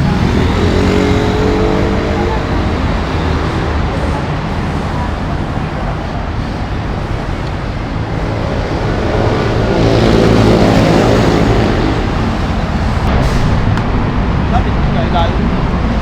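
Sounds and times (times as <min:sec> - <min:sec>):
scooter engine revving: 0:00.0 - 0:13.1.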